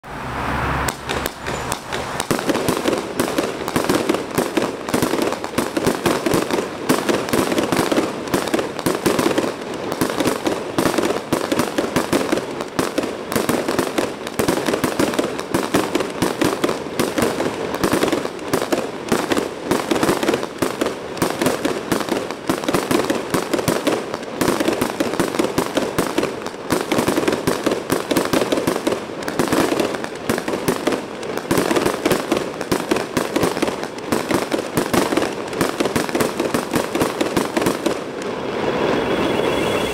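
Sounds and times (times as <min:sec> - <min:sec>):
firework crackling bangs: 0:00.8 - 0:39.9.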